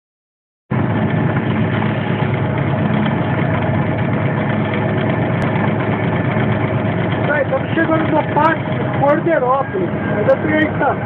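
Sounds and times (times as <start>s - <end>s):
diesel locomotive engine running: 0.7s - 11.0s.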